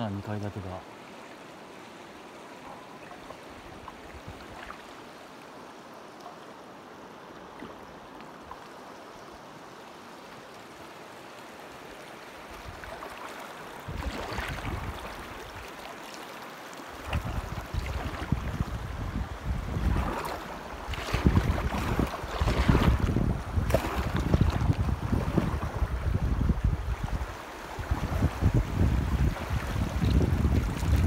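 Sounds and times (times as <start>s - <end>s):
river water running: 0.0s - 31.0s.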